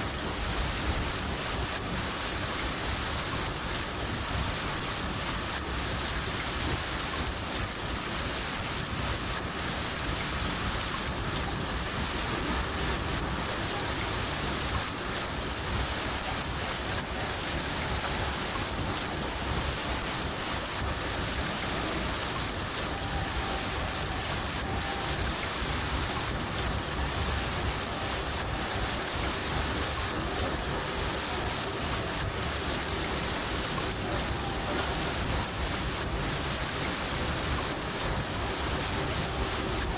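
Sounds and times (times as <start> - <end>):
field cricket chirping: 0.0 - 39.9
rain hissing: 0.0 - 39.9.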